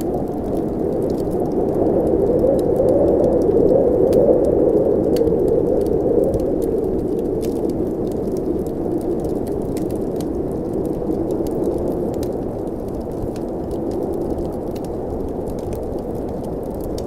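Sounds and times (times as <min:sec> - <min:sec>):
blizzard wind howling: 0:00.0 - 0:17.0
fireplace crackling: 0:00.0 - 0:17.0.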